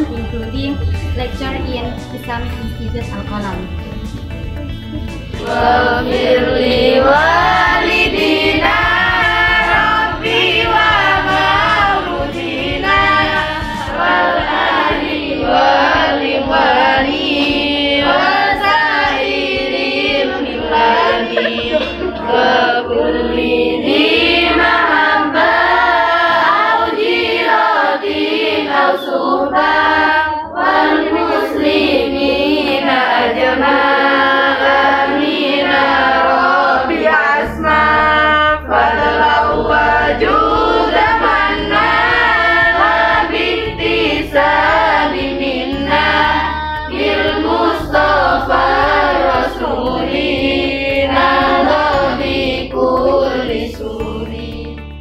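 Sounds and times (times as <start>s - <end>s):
women singing together: 0.0s - 3.6s, 5.2s - 55.0s.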